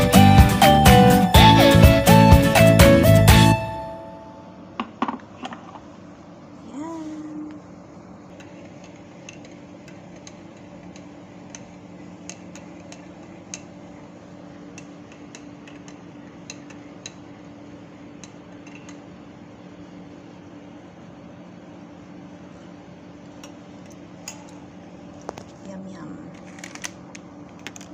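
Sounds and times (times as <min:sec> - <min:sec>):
steady low hum: 0:02.2 - 0:27.9.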